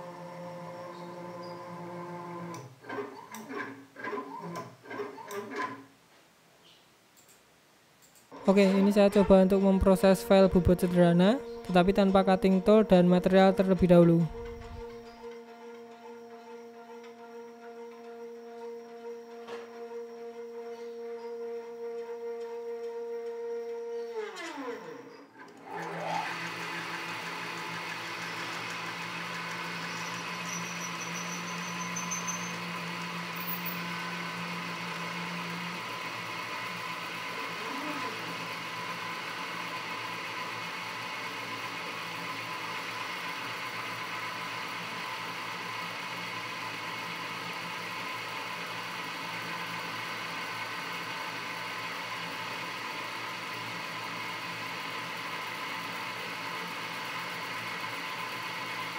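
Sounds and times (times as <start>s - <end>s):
spindle motor whirring hum: 0.0s - 5.8s, 8.3s - 58.9s
stepper motors driving carriage: 8.3s - 58.9s.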